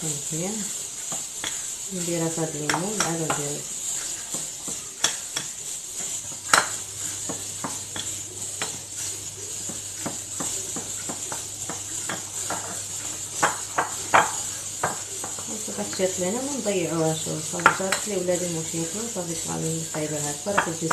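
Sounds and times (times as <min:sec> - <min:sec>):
steady high hiss: 0:00.0 - 0:20.9
metal spoon scraping a pot: 0:00.7 - 0:20.9.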